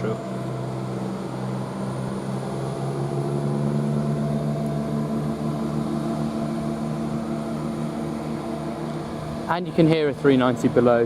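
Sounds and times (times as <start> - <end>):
train diesel engines: 0.0 - 11.0.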